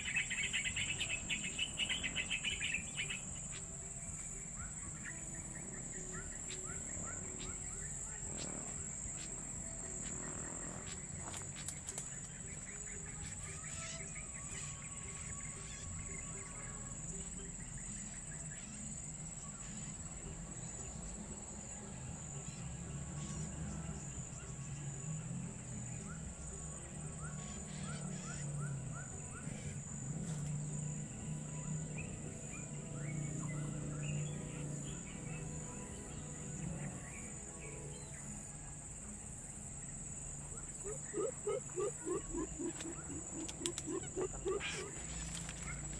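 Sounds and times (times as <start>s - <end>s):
high-pitched insect drone: 0.0s - 45.9s.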